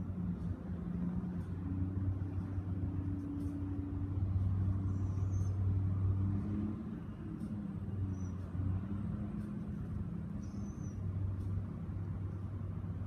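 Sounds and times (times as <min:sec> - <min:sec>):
low steady rumble and hum: 0:00.0 - 0:13.0.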